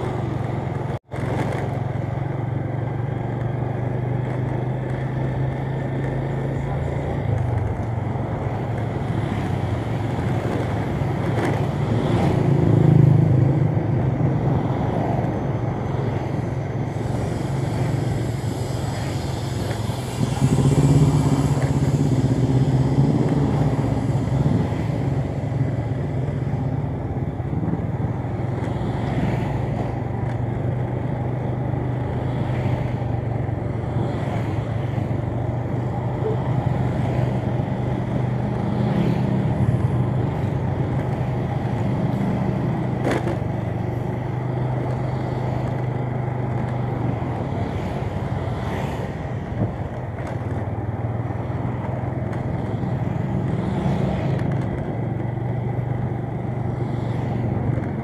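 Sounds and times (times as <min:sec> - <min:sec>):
motorcycle engine running: 0:00.0 - 0:58.0
passing traffic: 0:00.0 - 0:58.0
road noise: 0:00.0 - 0:58.0.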